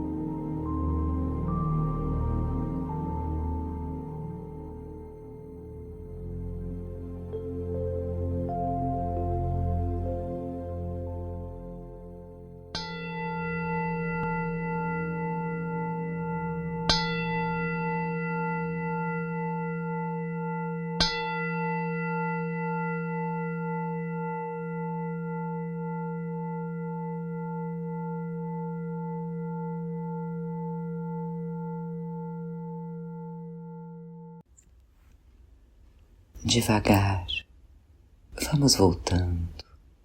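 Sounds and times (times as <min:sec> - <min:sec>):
singing bowl ringing: 0:00.0 - 0:34.5.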